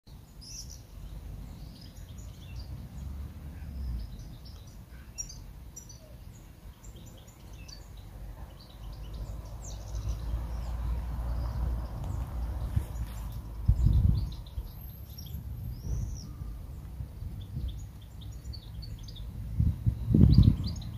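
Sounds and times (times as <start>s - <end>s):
small birds chirping: 0.1s - 20.9s.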